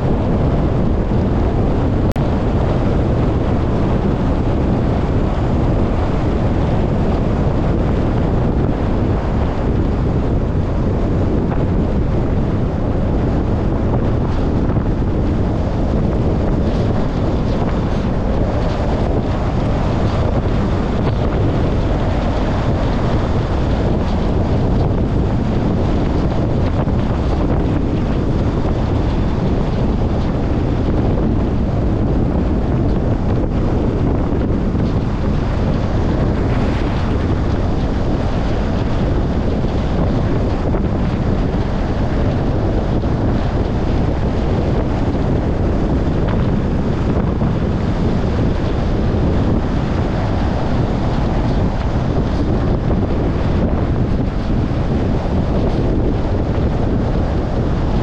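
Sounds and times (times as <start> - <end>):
car road noise: 0.0 - 58.0
wind rushing: 0.0 - 58.0.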